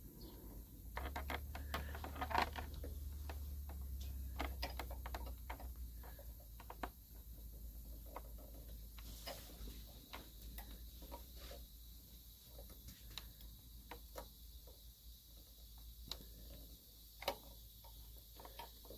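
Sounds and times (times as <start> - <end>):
small metallic clicks: 0.8 - 11.4, 12.5 - 18.9.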